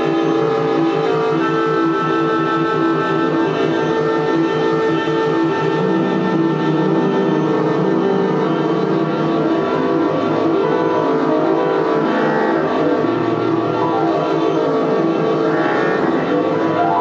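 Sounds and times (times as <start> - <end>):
buzzing low drone: 0.0 - 17.0
saxophone clarinet and piano: 0.0 - 17.0.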